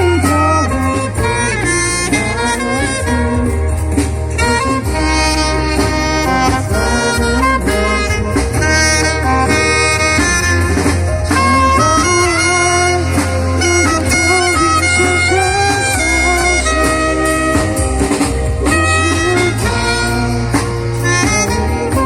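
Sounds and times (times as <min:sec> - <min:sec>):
bass line: 0:00.0 - 0:22.0
lead melody: 0:00.0 - 0:22.0.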